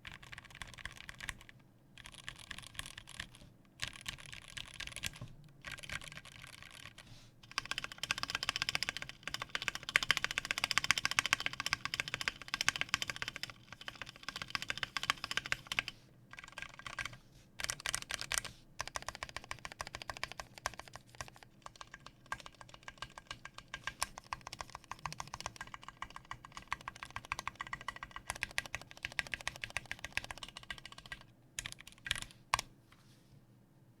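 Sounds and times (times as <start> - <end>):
mechanical keyboard typing: 0.0 - 32.7.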